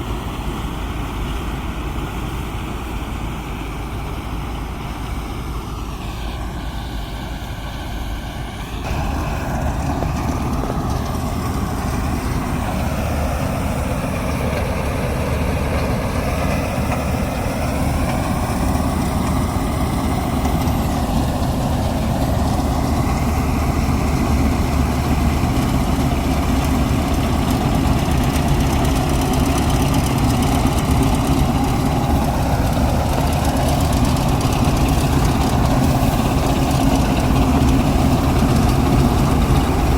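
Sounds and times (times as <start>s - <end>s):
diesel engine of farm machinery: 0.0s - 39.9s.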